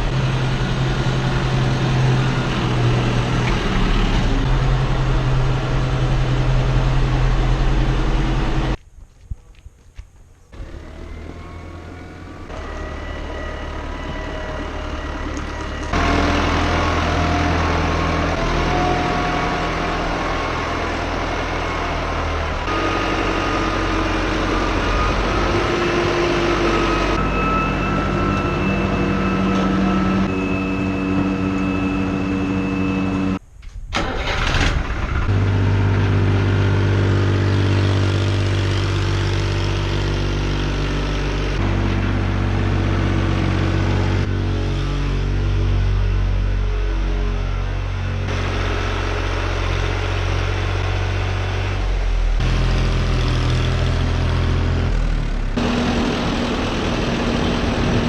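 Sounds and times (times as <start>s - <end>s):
tractor engine running: 10.4s - 58.0s.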